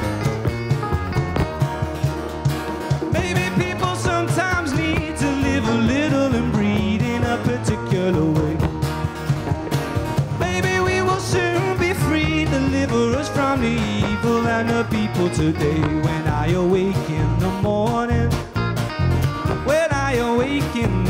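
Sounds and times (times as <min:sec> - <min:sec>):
acoustic guitar: 0:00.0 - 0:21.0
bass guitar: 0:00.0 - 0:21.0
cajon beat: 0:00.0 - 0:21.0.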